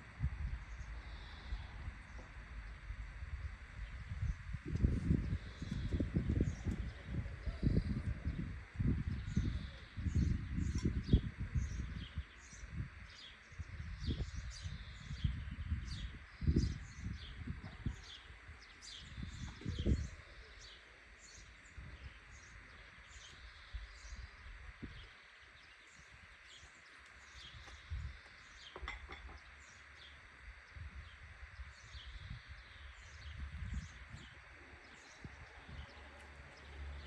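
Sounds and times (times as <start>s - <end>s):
outdoor background hiss: 0.0s - 37.0s
small birds chirping: 0.1s - 37.0s.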